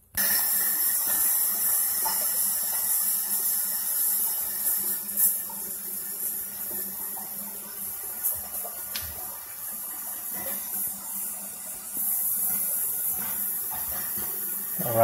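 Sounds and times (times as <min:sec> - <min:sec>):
toilet tank filling hiss: 0:00.0 - 0:15.0.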